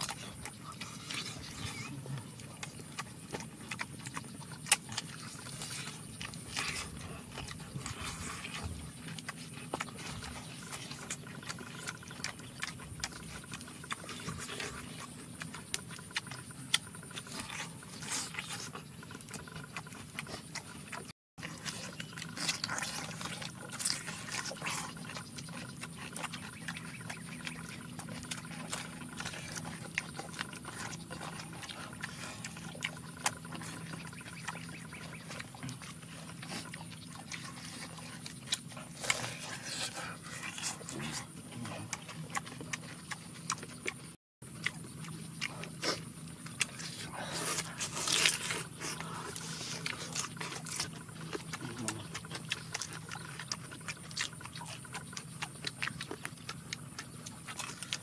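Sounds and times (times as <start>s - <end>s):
people chewing crunchy food: 0.0s - 58.0s.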